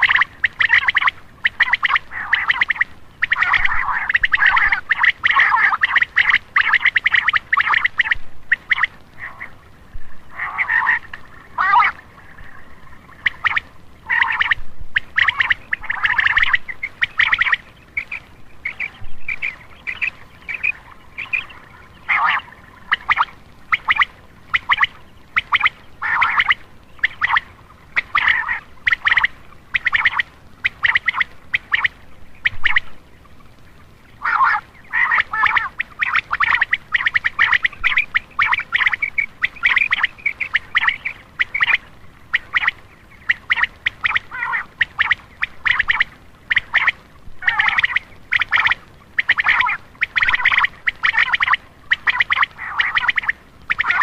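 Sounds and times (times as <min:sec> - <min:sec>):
quail calling: 0:00.0 - 0:33.0, 0:34.2 - 0:54.0.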